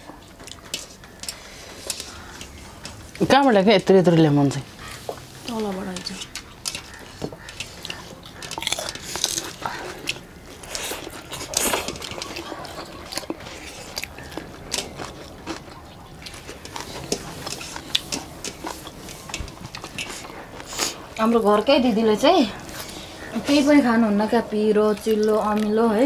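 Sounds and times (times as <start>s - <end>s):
close-up chewing: 0.0s - 3.3s, 4.7s - 23.4s, 24.6s - 26.0s.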